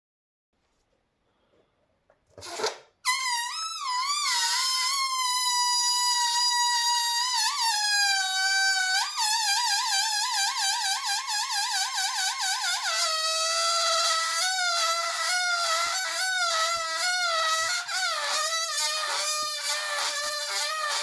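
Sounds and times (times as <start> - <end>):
balloon deflating with squeal: 2.4 - 21.0.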